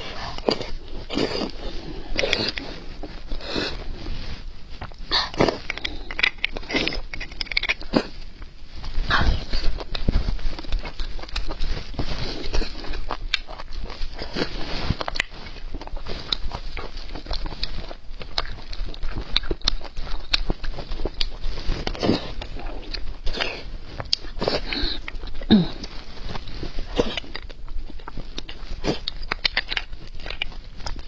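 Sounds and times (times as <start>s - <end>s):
biting and chewing: 0.0s - 31.0s.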